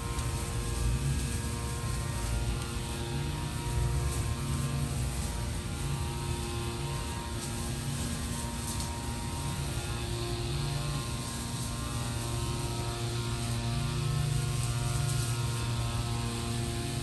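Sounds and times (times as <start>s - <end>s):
mechanical hum with low drone: 0.0s - 17.0s.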